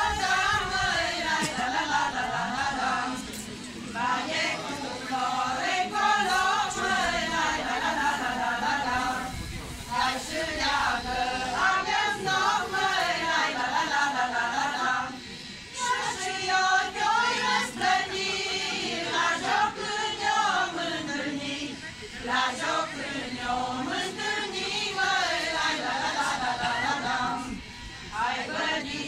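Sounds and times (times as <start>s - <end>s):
group singing folk song: 0.0s - 29.0s.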